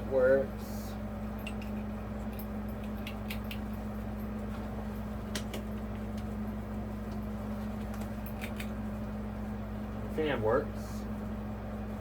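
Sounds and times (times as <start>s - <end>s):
ceiling fan motor hum: 0.0s - 12.0s.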